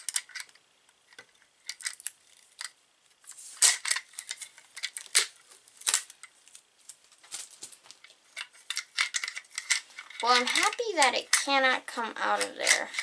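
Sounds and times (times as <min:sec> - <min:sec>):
plastic parts clicking: 0:00.0 - 0:02.8, 0:03.6 - 0:07.0, 0:07.8 - 0:13.0.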